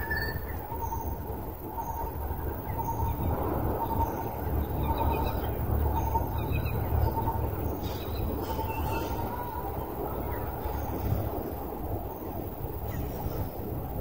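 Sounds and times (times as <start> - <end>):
faint high chirping calls: 0.0 - 11.6
wind rumble on microphone: 0.0 - 14.0.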